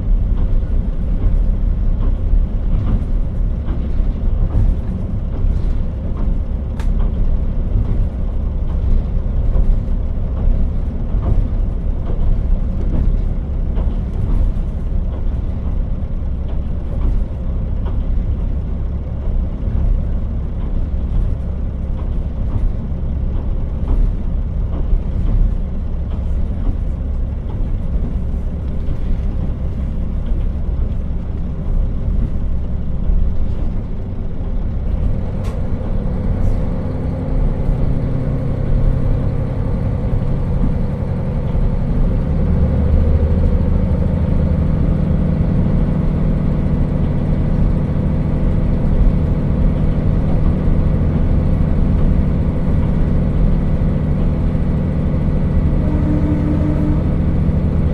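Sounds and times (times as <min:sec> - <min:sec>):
diesel engine drone: 0:00.0 - 0:57.9
train wheels rumbling: 0:00.0 - 0:57.9.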